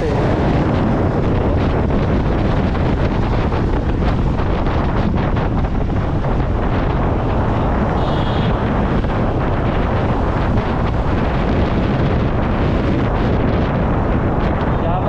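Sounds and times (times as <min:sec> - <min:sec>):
road and engine noise: 0:00.0 - 0:15.0
wind buffeting microphone: 0:00.0 - 0:15.0.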